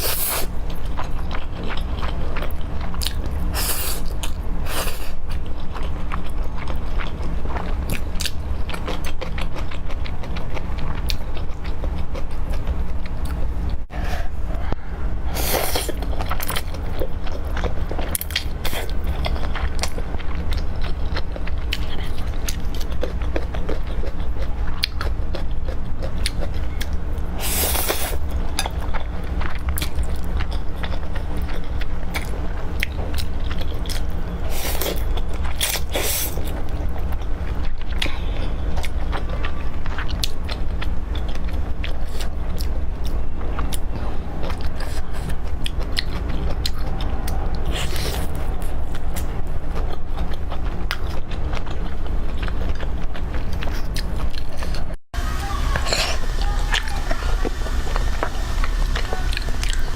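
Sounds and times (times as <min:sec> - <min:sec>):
steady low hum: 0:00.0 - 0:59.9
chewing with wet mouth clicks: 0:00.7 - 0:13.9, 0:15.7 - 0:27.2, 0:28.4 - 0:56.4.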